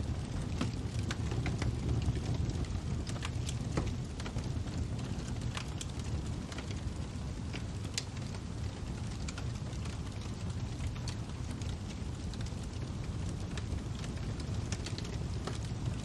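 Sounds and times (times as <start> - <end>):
fire popping and snapping: 0.0 - 16.0
fire rumbling: 0.0 - 16.0.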